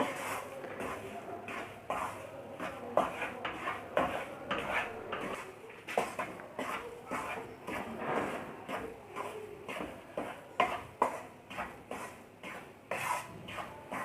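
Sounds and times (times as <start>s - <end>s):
spatula scraping a pan: 0.0s - 14.0s.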